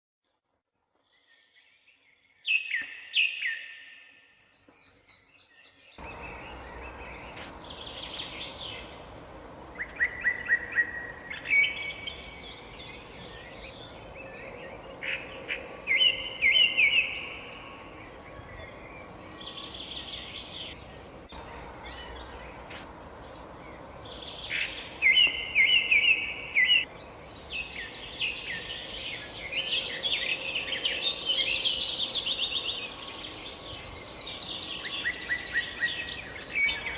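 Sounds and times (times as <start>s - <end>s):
birds chirping and singing: 1.2s - 9.2s, 9.8s - 22.8s, 23.4s - 36.9s
steady background hiss: 6.0s - 36.9s.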